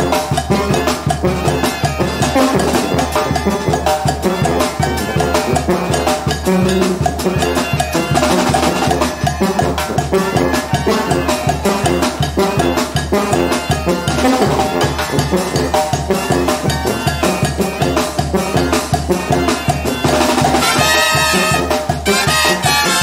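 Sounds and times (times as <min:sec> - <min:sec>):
brass band playing: 0:00.0 - 0:23.0
snare drum beat: 0:00.0 - 0:23.0
trumpets playing tune: 0:00.0 - 0:23.0.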